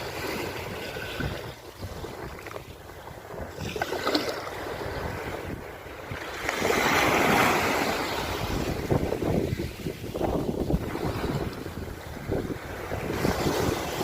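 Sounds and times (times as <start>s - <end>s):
sea waves washing onto shore: 0.0s - 14.0s
wind rumbling on microphone: 0.0s - 14.0s.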